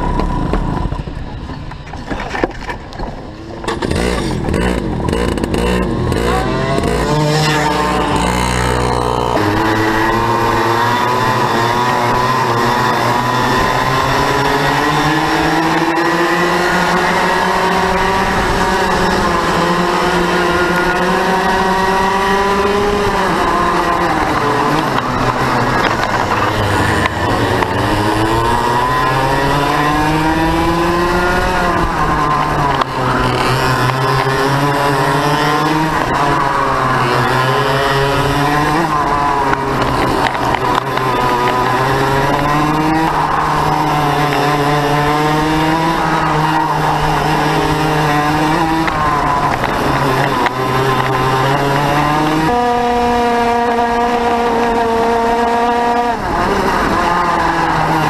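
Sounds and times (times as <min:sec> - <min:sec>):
kart engine revving: 0:00.0 - 0:01.6, 0:03.2 - 0:58.0.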